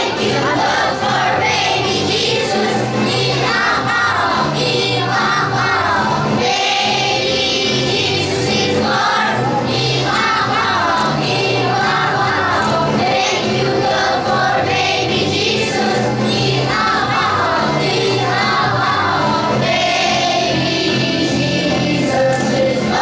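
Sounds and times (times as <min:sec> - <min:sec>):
children singing together: 0:00.0 - 0:23.0
musical accompaniment with bass: 0:00.0 - 0:23.0.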